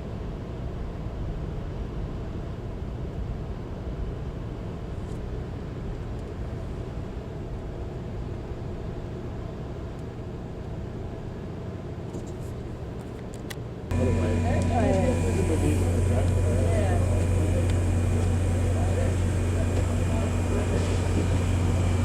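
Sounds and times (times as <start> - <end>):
passenger train rumble: 0.0 - 22.0.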